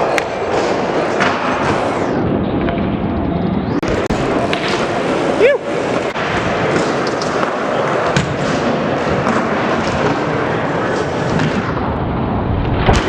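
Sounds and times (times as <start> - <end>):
skateboard wheels rolling on ramps: 0.0 - 13.0.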